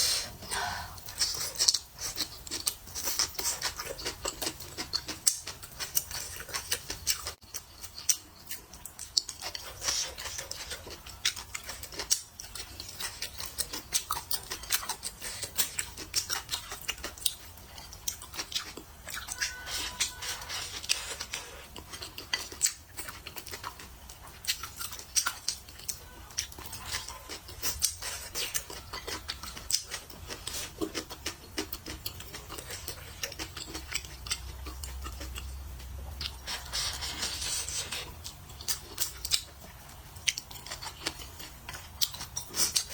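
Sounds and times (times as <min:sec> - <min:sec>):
chewing: 0:00.4 - 0:42.9.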